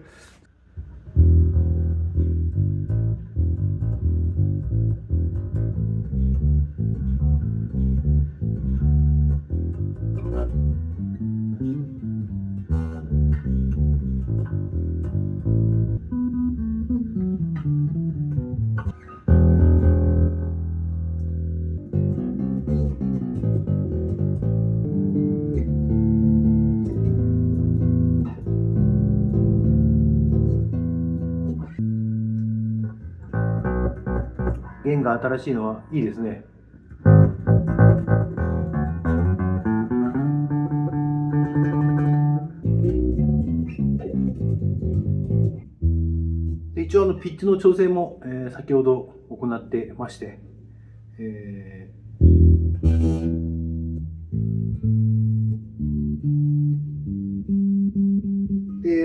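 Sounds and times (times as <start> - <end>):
electric bass notes: 0.8 - 59.0.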